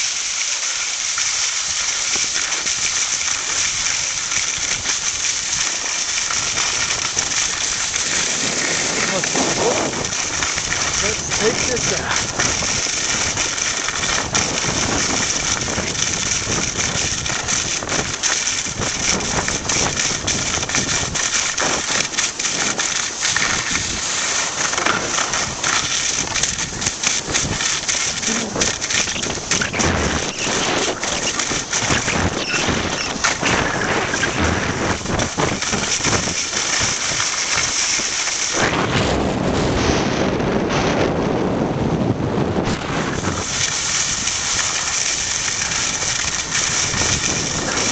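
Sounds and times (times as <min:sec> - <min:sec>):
skis scraping on snow: 0:00.0 - 0:41.6, 0:42.4 - 0:47.9
wind rushing over microphone: 0:06.2 - 0:47.9.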